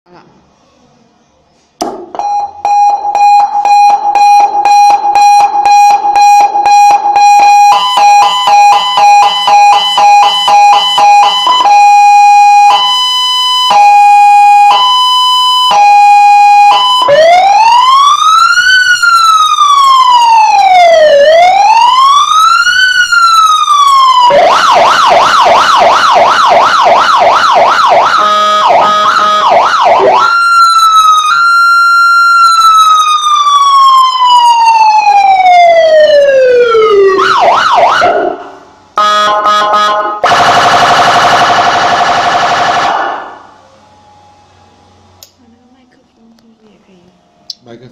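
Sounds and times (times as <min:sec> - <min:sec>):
electronic emergency siren: 0:02.2 - 0:45.2.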